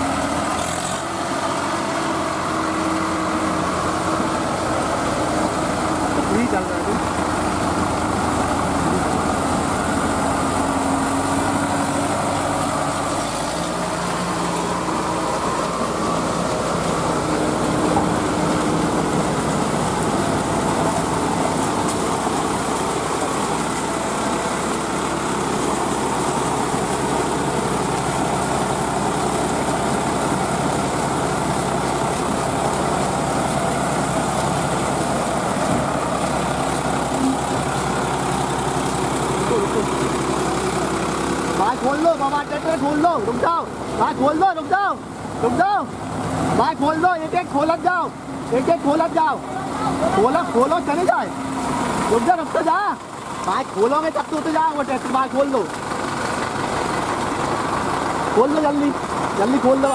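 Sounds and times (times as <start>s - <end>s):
diesel tractor engines running: 0.0s - 59.9s.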